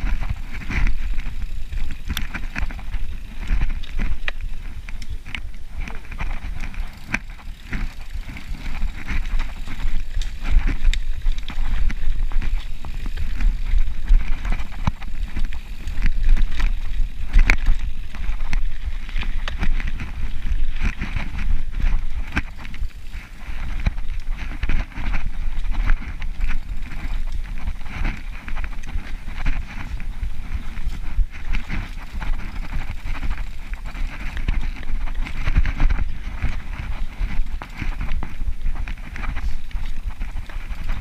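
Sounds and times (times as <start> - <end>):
bike rattling and clacking: 0.0 - 41.0
bike tyres rolling over dirt: 0.0 - 41.0.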